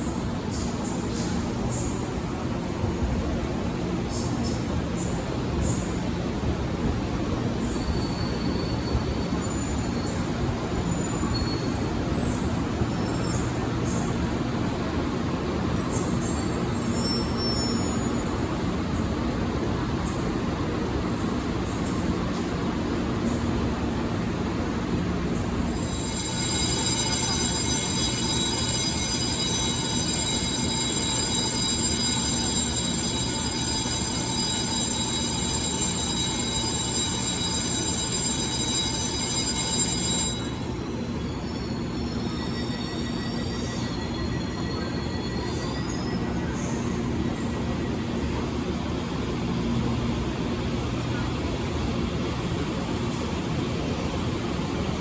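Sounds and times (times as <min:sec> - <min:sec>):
steel wheels squealing on rail: 0:00.0 - 0:24.2, 0:24.9 - 0:55.0
electric train high-pitched whine: 0:00.0 - 0:55.0.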